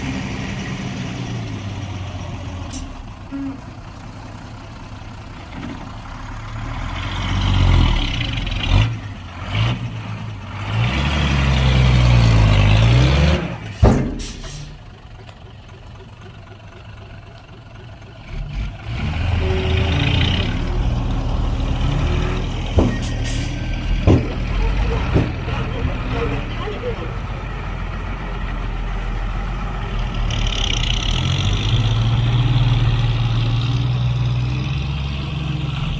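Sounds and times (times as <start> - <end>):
heavy diesel engines running: 0.0 - 35.9.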